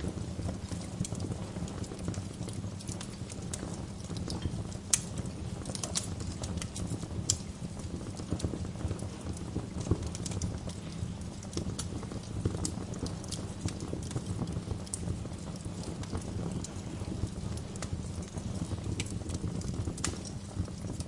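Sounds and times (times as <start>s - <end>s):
burning logs popping: 0.0s - 21.0s
low rumble of flames: 0.0s - 21.0s.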